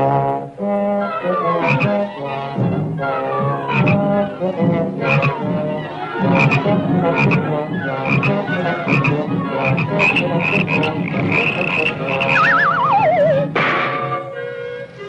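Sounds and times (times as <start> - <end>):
cartoon orchestral low brass: 0.0 - 14.0.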